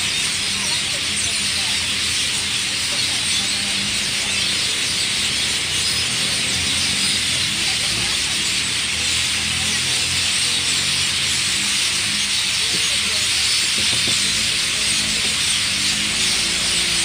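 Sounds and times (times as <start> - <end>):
many small birds chirping: 0.0 - 17.0.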